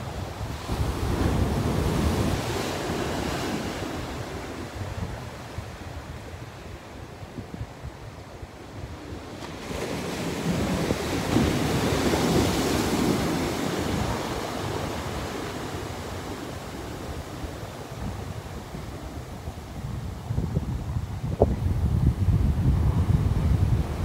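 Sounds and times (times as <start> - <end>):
waves breaking on a beach: 0.0 - 24.0
wind buffeting microphone: 0.0 - 24.0.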